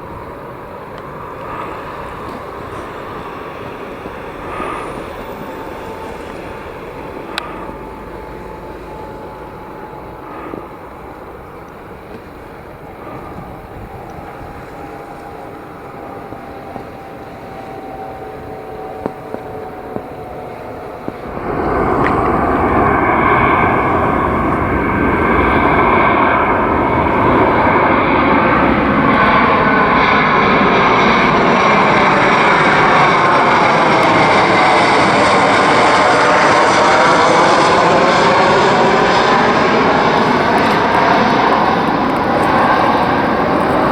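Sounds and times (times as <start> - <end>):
aircraft passing close: 0.0 - 43.9
distant jet engine whine: 0.0 - 43.9.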